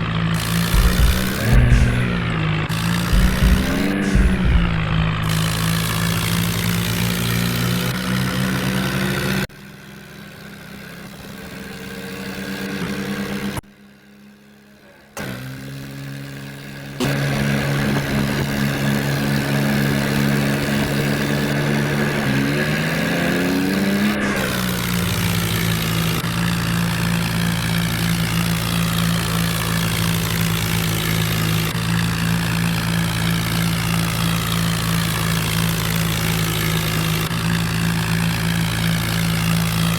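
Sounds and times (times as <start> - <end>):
tractor diesel engine running: 0.0 - 9.4, 16.0 - 39.9.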